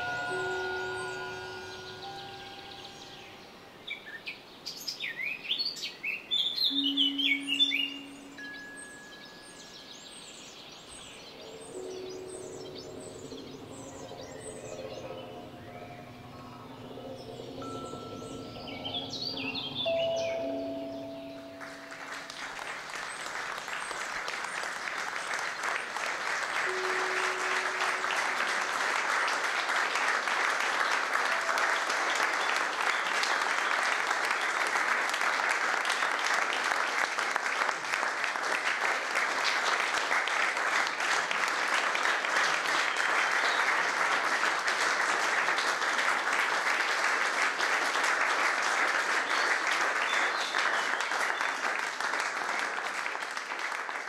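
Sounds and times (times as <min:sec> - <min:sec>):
audience applauding: 0:00.0 - 0:03.3, 0:11.5 - 0:54.0.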